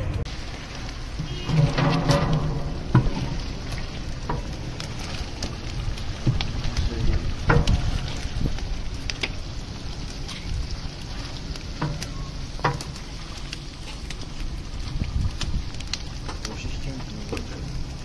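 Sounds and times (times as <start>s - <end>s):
food sizzling in a pot: 0.0s - 18.0s
low steady rumble: 0.0s - 18.0s.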